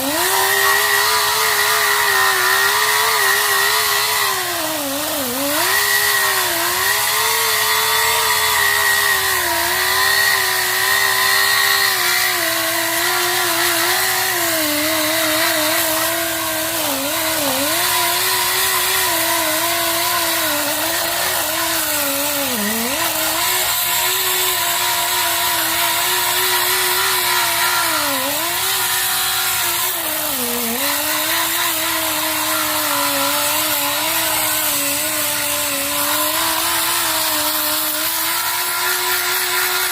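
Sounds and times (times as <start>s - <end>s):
grinder motor whine: 0.0s - 39.9s.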